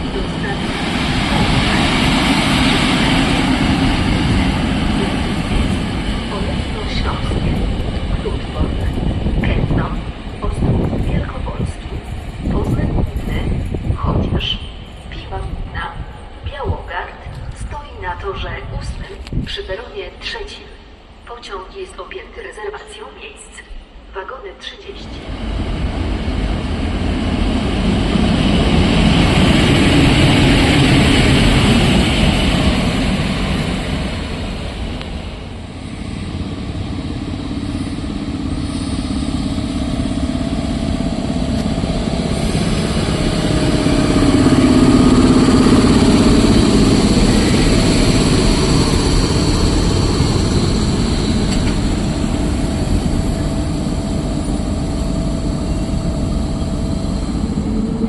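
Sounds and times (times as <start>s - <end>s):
electric locomotive rumbling: 0.0s - 58.0s.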